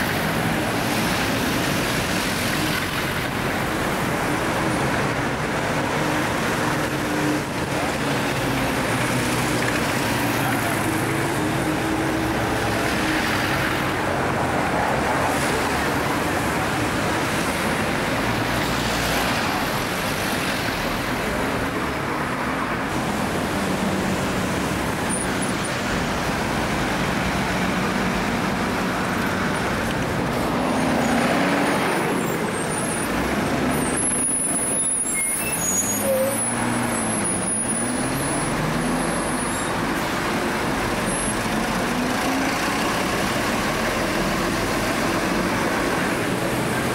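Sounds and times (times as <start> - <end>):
buses and cabs driving past: 0.0 - 46.9.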